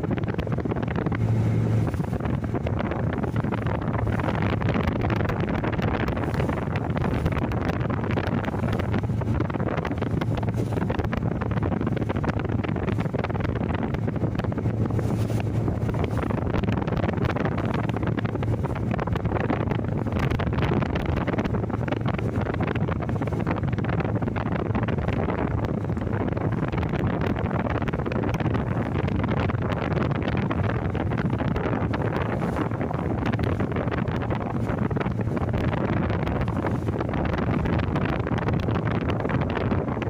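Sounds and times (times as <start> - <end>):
wind on microphone: 0.0 - 40.0.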